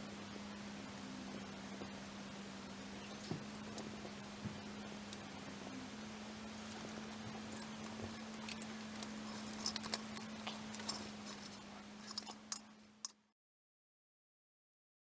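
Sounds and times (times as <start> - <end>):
campfire crackling and popping: 0.0 - 13.2
faint low hum: 0.0 - 13.3.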